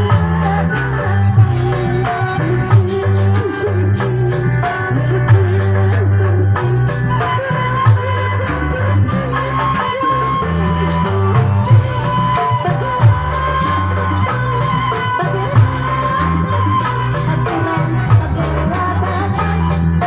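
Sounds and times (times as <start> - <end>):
music with bass line and percussion: 0.0 - 20.0.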